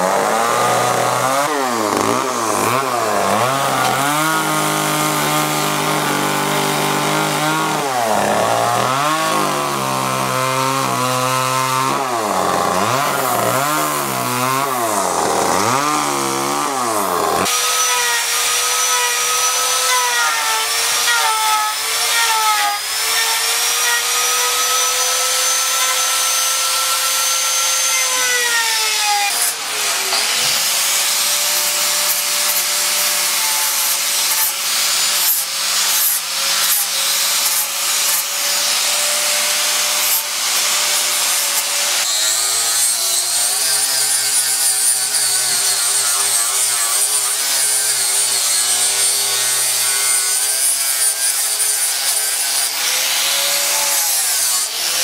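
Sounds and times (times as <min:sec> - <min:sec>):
angle grinder sanding wood: 0:00.0 - 0:55.0.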